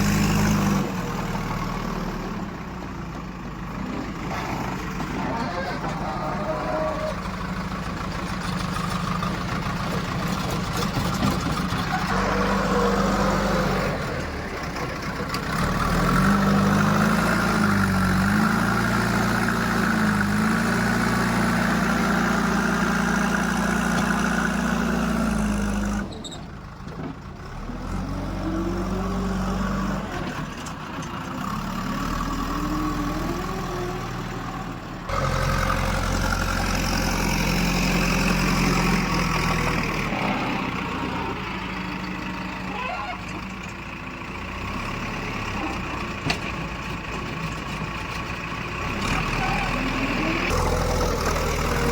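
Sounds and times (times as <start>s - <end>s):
heavy diesel machinery engine: 0.0s - 51.9s.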